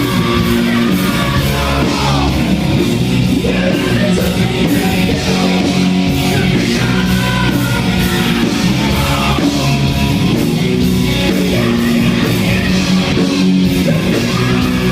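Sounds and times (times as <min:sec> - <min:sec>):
person singing: 0:00.0 - 0:02.5, 0:03.3 - 0:09.8, 0:11.2 - 0:14.9
distorted electric guitars: 0:00.0 - 0:14.9
drums: 0:00.0 - 0:14.9
loud rock music: 0:00.0 - 0:14.9.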